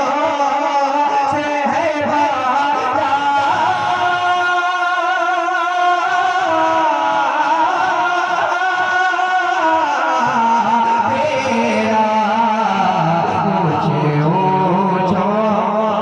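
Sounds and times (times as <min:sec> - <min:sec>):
man singing with vibrato: 0:00.0 - 0:16.0.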